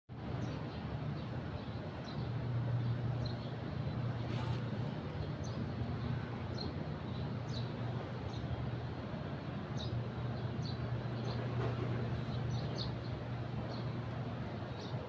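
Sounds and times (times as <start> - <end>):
steady low hum: 0.1 - 15.0
small birds chirping: 0.3 - 9.0, 9.6 - 15.0.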